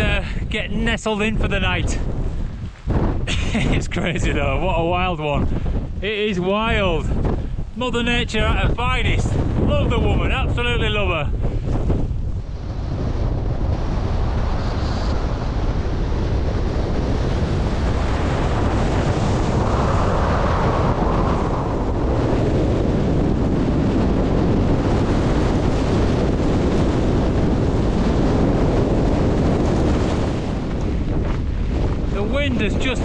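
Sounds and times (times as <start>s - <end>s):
strong wind roaring on microphone: 0.0s - 33.0s.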